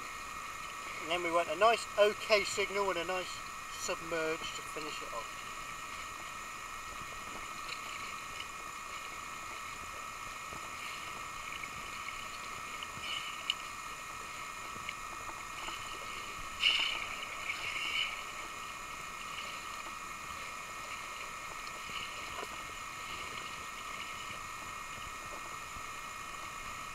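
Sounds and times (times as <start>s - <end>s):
water lapping and sloshing: 0.0s - 26.9s.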